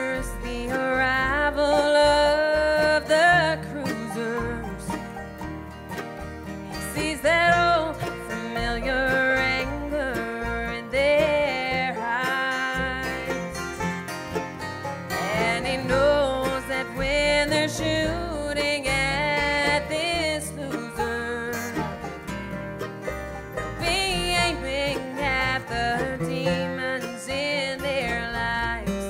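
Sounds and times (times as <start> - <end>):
bluegrass band playing: 0.0 - 29.0.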